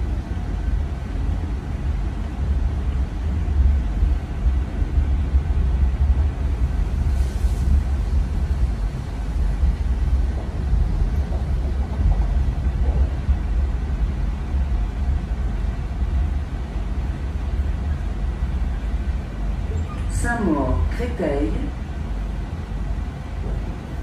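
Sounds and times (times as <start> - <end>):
train rumble from inside: 0.0 - 24.0.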